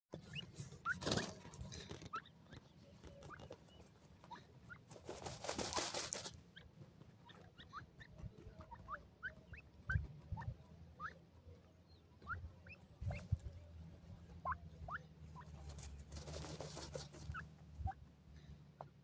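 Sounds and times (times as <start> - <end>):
scratching in dry soil: 0.1 - 18.0
birds peeping: 0.1 - 19.0.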